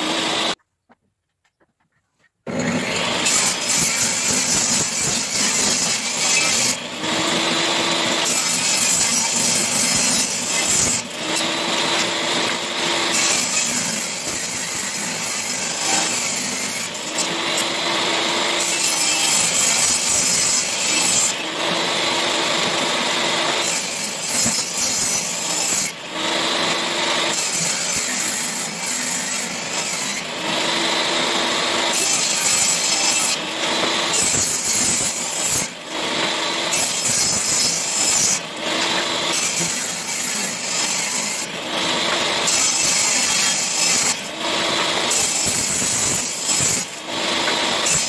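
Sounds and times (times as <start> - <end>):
power tool sawing wood: 0.0 - 0.6, 2.5 - 48.0.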